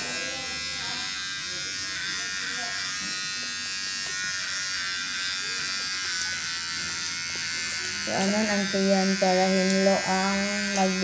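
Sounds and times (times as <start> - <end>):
electric pet clippers buzzing: 0.0 - 11.0.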